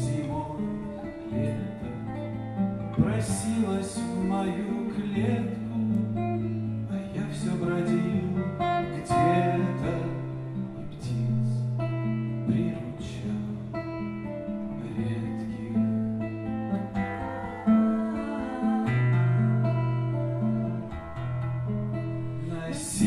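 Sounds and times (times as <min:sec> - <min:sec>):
acoustic guitar playing chords: 0:00.0 - 0:23.0.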